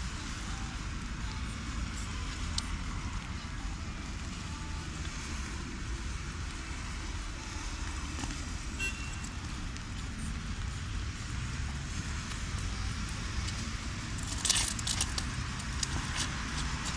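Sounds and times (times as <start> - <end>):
car tyres hissing on wet road: 0.0 - 16.9
low traffic rumble: 0.0 - 16.9.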